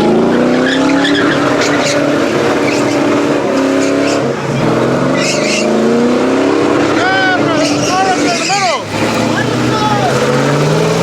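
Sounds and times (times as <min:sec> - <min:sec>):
tires squealing: 0:00.0 - 0:11.0
truck engine revving: 0:00.0 - 0:11.0.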